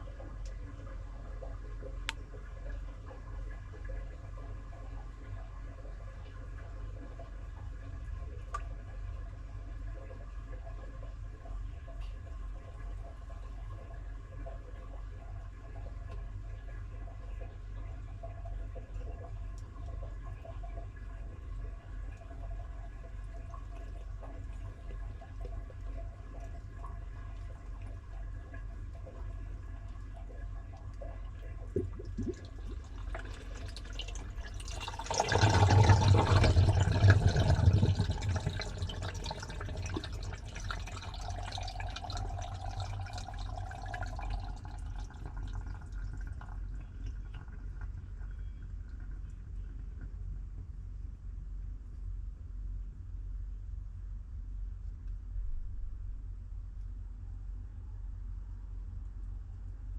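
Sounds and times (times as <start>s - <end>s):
water rushing in washing machine: 0.0s - 48.4s
washing machine low hum: 0.0s - 59.9s.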